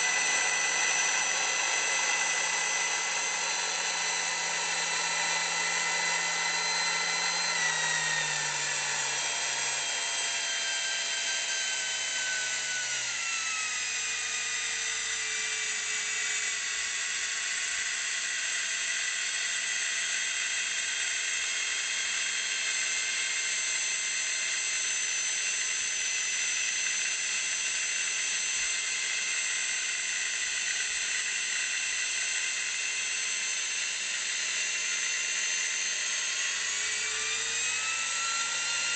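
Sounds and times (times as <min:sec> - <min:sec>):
drill press motor whine: 0:00.0 - 0:38.9.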